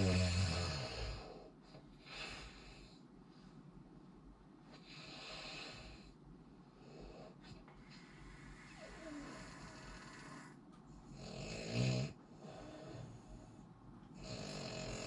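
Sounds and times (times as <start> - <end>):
soft hissy breathing: 0.0 - 15.0.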